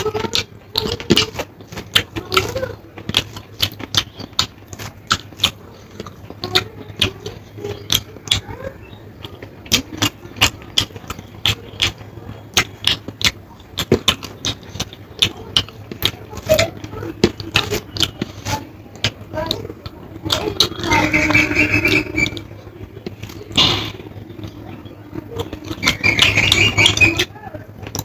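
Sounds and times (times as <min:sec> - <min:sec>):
wet chewing and mouth smacking: 0:00.0 - 0:28.0.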